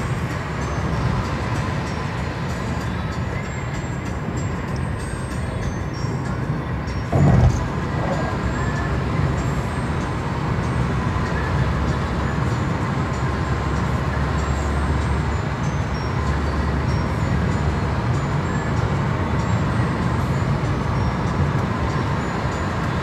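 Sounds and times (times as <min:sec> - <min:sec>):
road and engine rumble inside car: 0:00.0 - 0:23.0.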